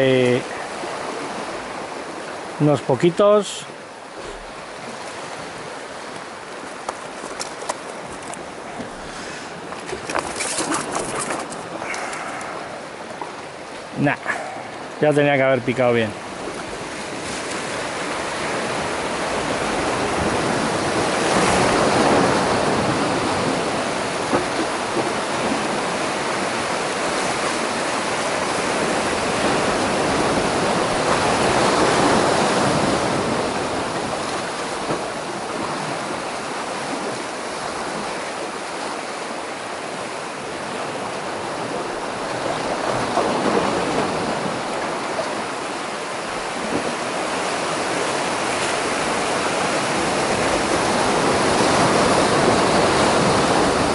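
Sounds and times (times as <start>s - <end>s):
surf breaking over rocks: 0.0s - 53.9s.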